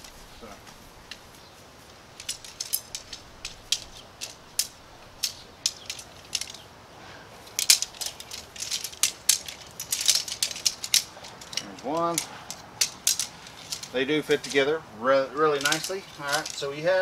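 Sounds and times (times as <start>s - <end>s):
tent pole sections clicking: 0.0s - 17.0s.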